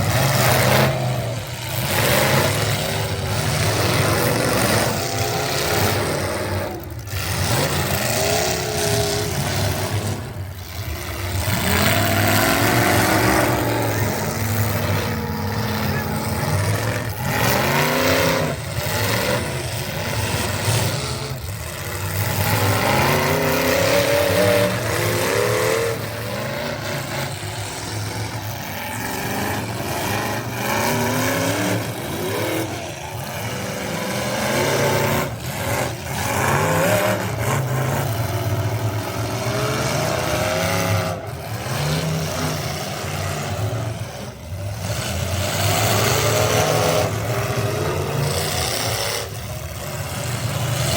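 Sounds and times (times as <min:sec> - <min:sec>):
truck engine revving hard: 0:00.0 - 0:50.9.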